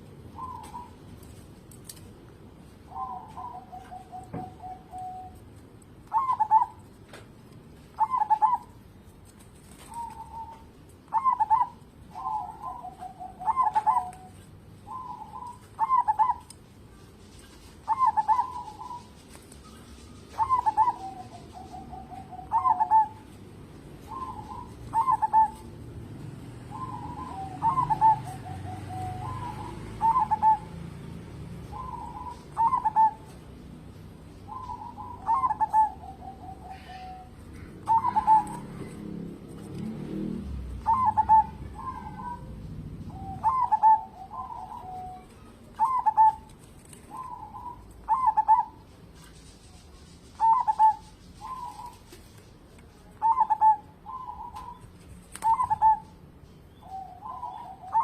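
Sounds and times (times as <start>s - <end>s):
dove cooing: 0.0s - 1.1s, 2.8s - 5.5s, 6.1s - 6.9s, 7.9s - 8.8s, 9.7s - 16.6s, 17.8s - 33.4s, 34.4s - 48.9s, 50.3s - 52.2s, 53.0s - 56.2s, 56.8s - 58.0s.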